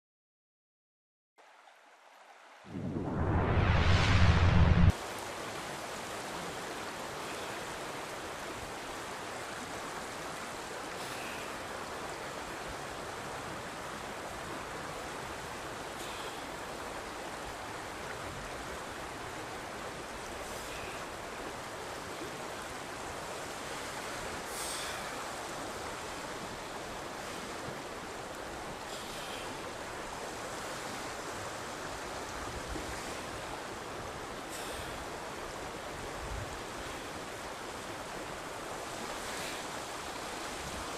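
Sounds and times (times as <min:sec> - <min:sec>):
river rushing: 0:01.4 - 0:40.9.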